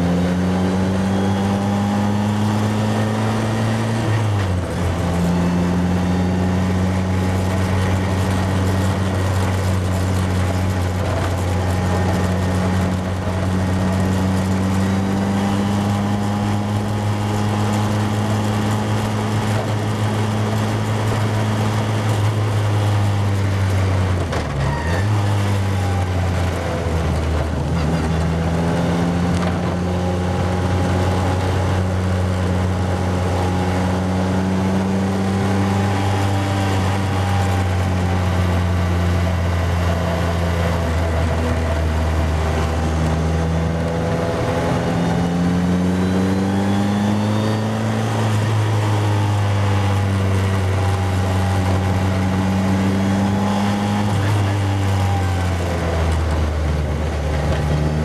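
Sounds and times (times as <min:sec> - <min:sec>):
racing car engine running hard: 0:00.0 - 0:58.0.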